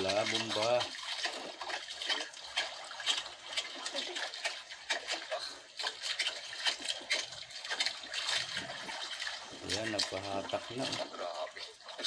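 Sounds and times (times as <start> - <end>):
water splashing around boat: 0.0 - 12.0.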